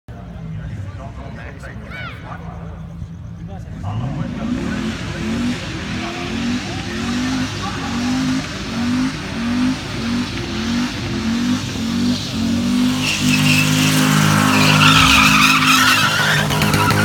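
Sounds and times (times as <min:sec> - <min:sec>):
tyres squealing: 0:01.6 - 0:17.0
car engine revving: 0:02.4 - 0:17.0.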